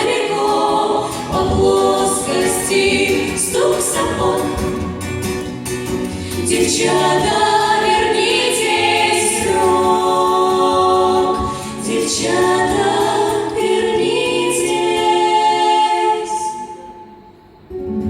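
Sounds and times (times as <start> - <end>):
vocal ensemble singing: 0.0 - 17.5.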